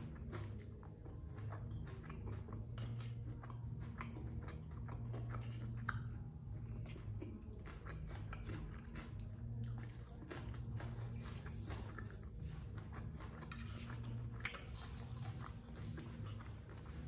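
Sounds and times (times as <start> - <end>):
person chewing crunchy vegetables: 0.0 - 17.0.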